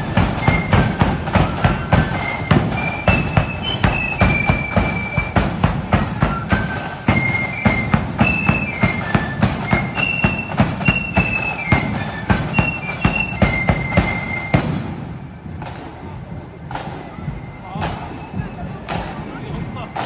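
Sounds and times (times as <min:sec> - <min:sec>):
flute melody: 0:00.0 - 0:20.0.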